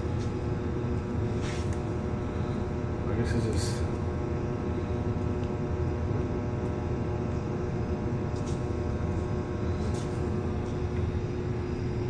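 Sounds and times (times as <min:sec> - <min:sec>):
motor drone with hum: 0:00.0 - 0:12.0.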